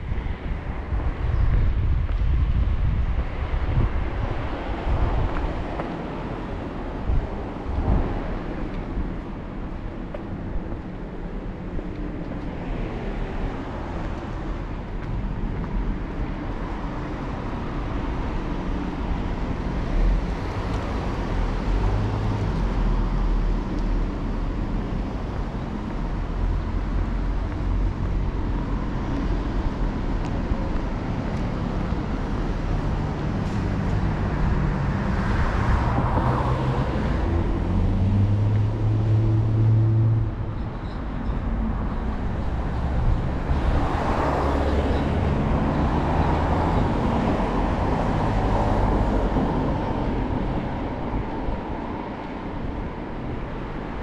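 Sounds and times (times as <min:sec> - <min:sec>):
road traffic rumble: 0:00.0 - 0:54.0
vehicles passing: 0:00.0 - 0:54.0.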